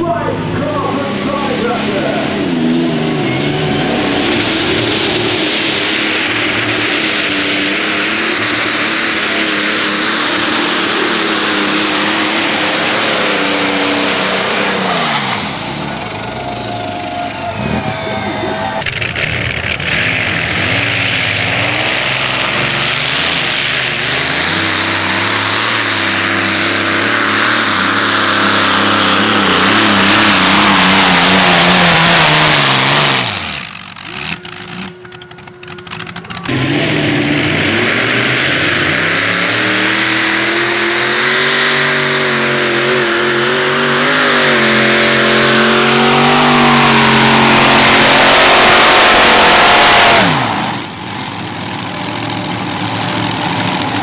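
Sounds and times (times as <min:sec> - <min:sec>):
supercharged engine climbing in pitch: 0:00.0 - 0:54.0
tractor racing engines full throttle: 0:00.0 - 0:54.0.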